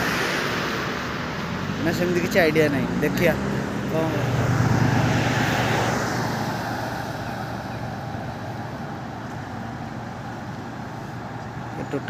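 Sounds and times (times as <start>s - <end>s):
car passing: 0.0s - 12.0s.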